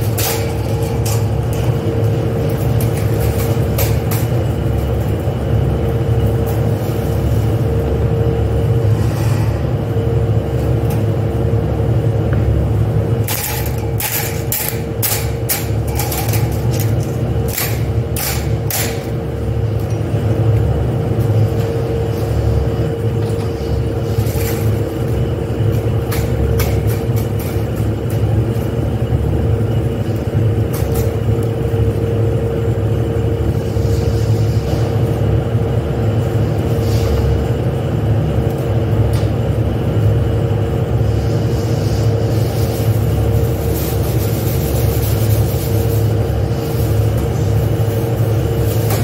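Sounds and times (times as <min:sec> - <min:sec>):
factory machinery humming: 0:00.0 - 0:49.0.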